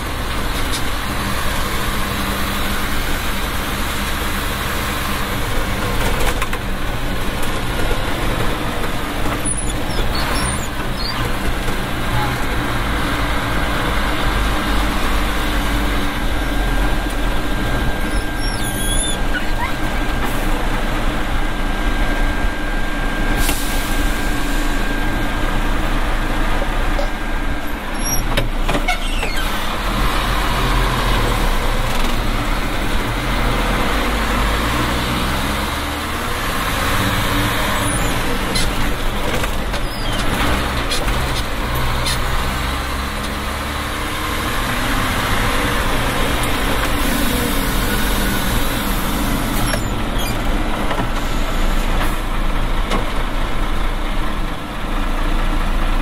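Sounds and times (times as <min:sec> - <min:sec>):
diesel engine running: 0:00.0 - 0:56.0
road and traffic noise: 0:00.0 - 0:56.0.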